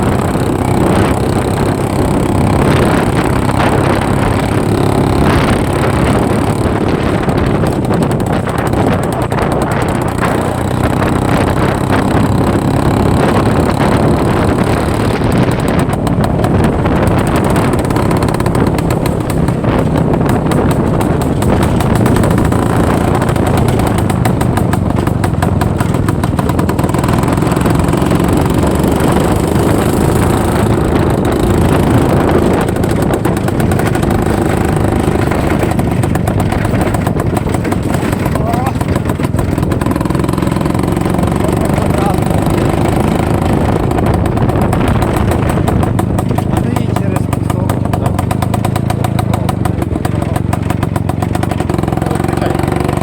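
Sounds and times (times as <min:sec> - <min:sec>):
motorcycle two-stroke engine running: 0:00.0 - 0:53.0.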